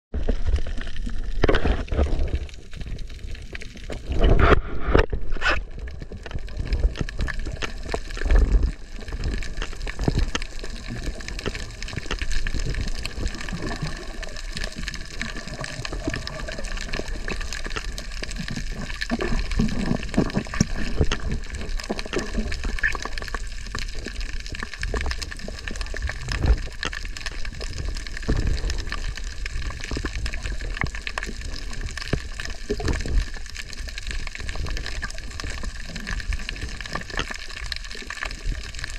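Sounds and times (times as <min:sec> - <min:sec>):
water sloshing and gurgling: 0:00.1 - 0:38.9
small underwater clicks: 0:00.2 - 0:38.9.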